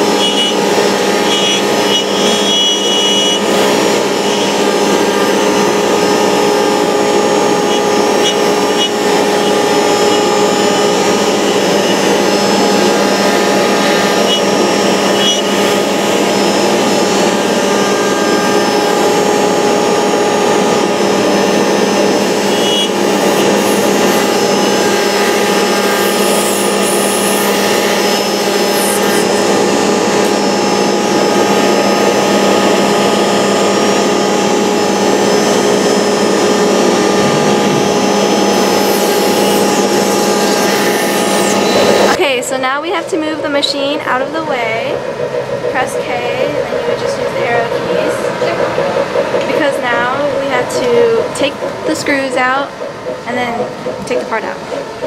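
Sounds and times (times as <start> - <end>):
dust vacuum rushing: 0.0 - 55.0
router spindle whine: 0.0 - 55.0.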